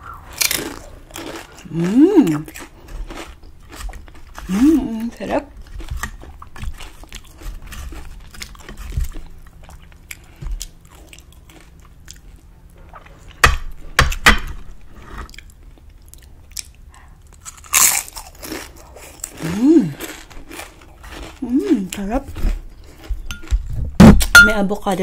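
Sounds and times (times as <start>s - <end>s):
chips crunching: 0.1s - 12.5s, 15.2s - 23.6s.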